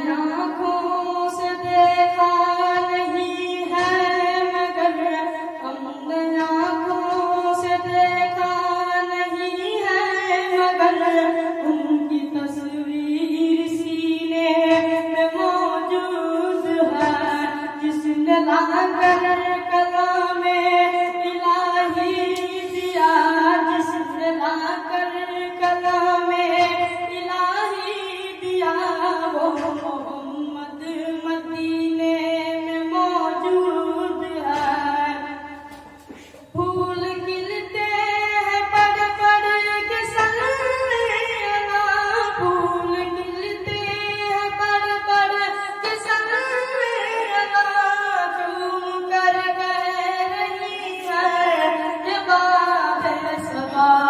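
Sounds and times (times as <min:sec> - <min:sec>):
boy singing into a microphone: 0:00.0 - 0:54.0.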